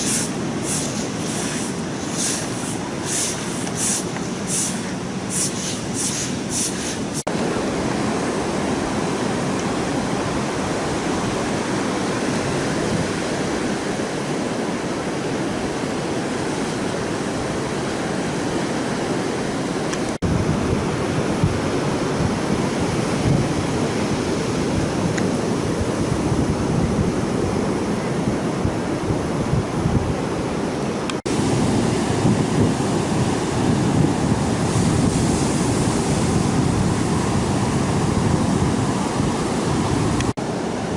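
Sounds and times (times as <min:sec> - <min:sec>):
heavy surf breaking on beach: 0:00.0 - 0:40.9
wind blowing across microphone: 0:00.0 - 0:40.9.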